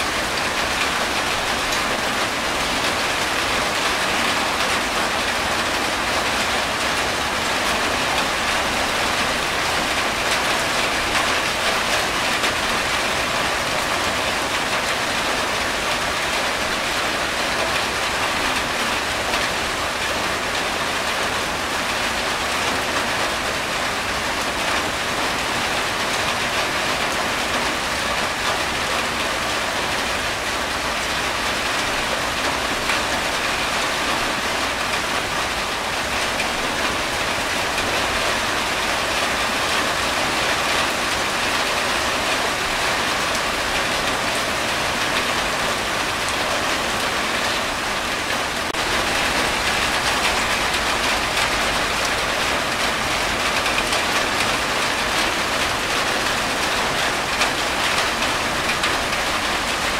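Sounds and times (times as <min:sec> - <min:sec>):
rain on a tin roof: 0:00.0 - 0:59.9
water streaming off roof: 0:00.0 - 0:59.9.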